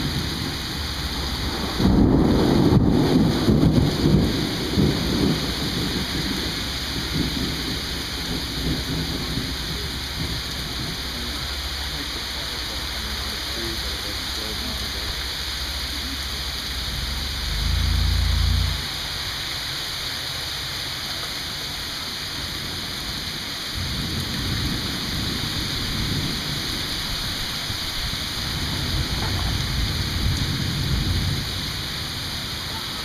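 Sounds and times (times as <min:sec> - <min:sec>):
thunder rumbling: 0:00.0 - 0:19.4, 0:22.5 - 0:33.0
rain falling: 0:00.0 - 0:33.0.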